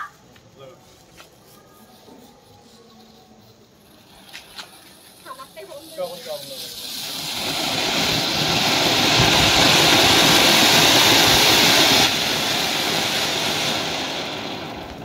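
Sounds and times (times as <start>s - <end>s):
firework fountain hissing and crackling: 0.0s - 15.0s.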